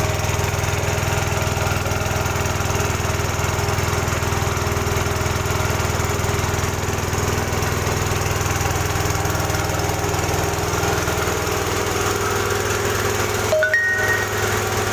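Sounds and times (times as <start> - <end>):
air compressor running: 0.0 - 14.9.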